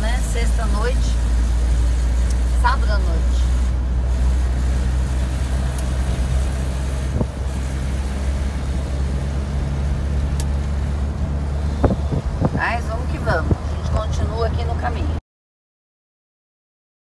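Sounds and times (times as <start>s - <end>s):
road noise: 0.0s - 15.2s
van engine drone: 0.0s - 15.2s.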